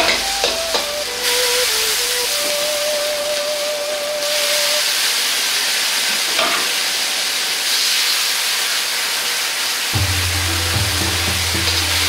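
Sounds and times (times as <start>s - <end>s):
liquid sizzling in a hot wok: 0.0s - 12.0s.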